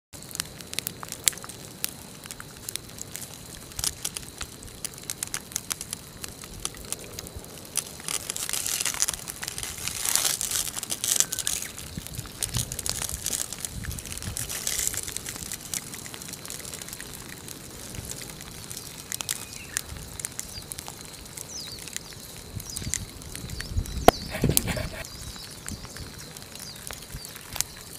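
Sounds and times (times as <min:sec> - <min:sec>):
lava crust crackling: 0:00.1 - 0:27.9.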